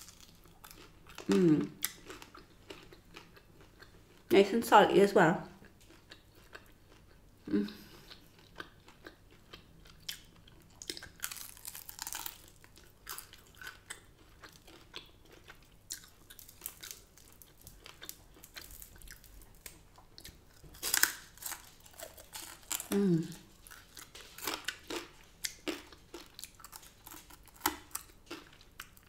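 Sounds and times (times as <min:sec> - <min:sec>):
person chewing crunchy food: 0:00.0 - 0:04.3, 0:05.6 - 0:29.0.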